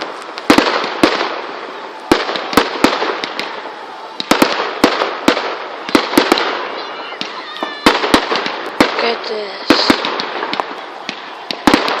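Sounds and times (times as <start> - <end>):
fireworks crackling rumble: 0.0 - 12.0
fireworks sharp bangs: 0.0 - 12.0.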